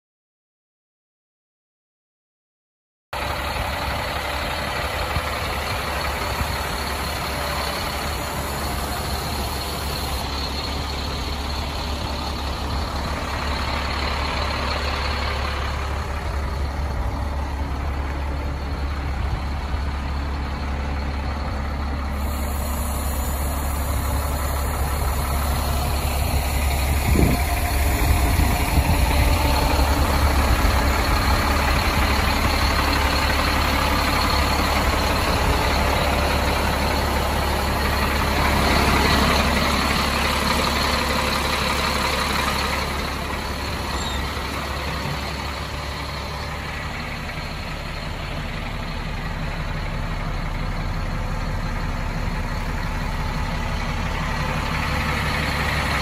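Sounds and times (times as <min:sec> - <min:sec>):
diesel truck engine idling: 0:03.2 - 0:56.0.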